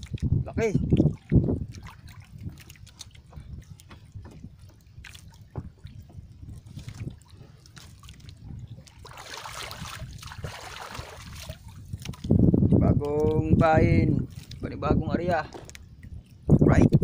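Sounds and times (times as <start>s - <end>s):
waves lapping against canoe hull: 0.0s - 16.8s.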